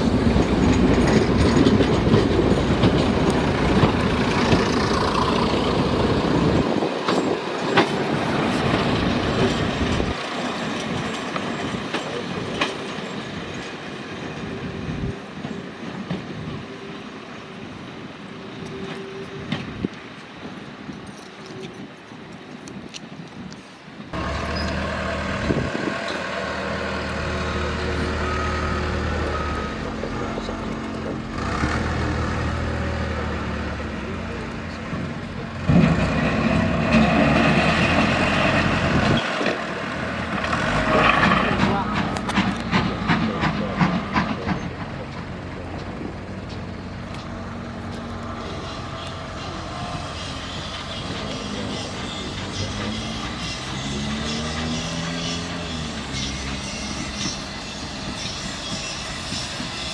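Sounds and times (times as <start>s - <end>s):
locomotive humming: 0.0s - 59.9s
train rumbling along tracks: 0.0s - 59.9s.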